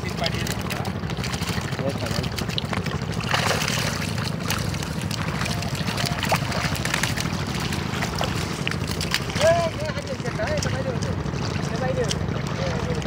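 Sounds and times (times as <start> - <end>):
boat engine hum: 0.0 - 13.0
fish flapping in a net: 0.0 - 13.0
water splashing: 0.0 - 13.0.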